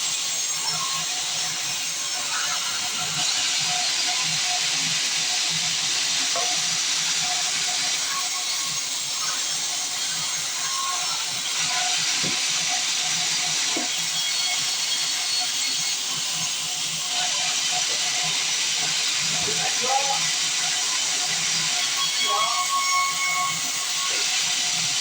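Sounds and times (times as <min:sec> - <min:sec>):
band saw running: 0:00.0 - 0:25.0.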